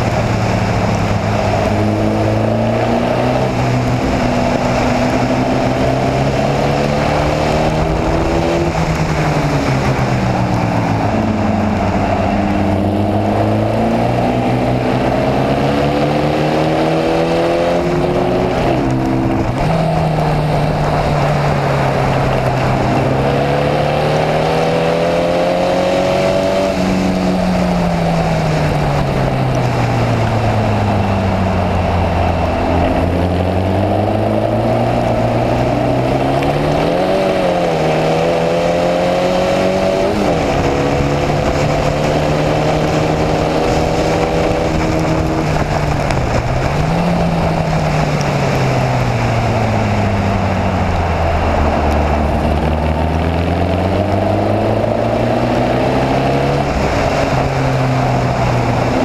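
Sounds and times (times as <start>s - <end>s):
racing car engine revving: 0.0s - 59.0s
wind noise: 0.0s - 59.0s.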